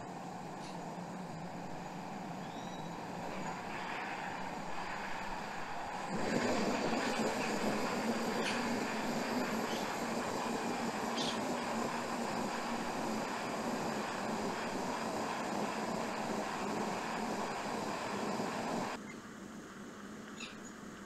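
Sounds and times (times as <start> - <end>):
camping stove roaring hiss: 0.0 - 20.2.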